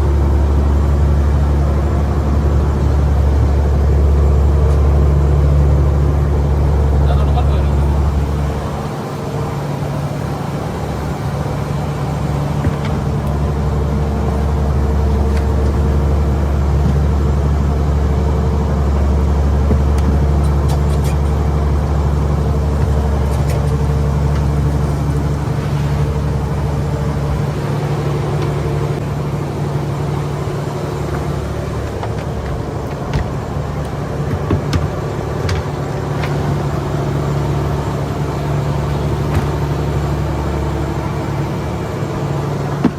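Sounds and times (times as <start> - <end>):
boat engine droning: 0.0 - 42.9.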